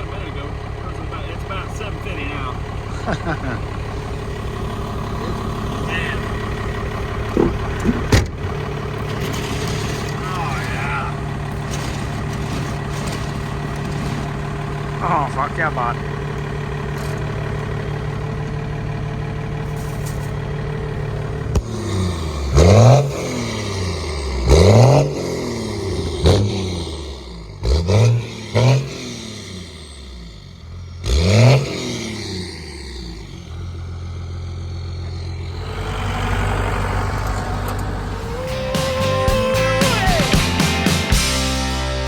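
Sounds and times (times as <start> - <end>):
diesel engine idling and revving: 0.0 - 42.0.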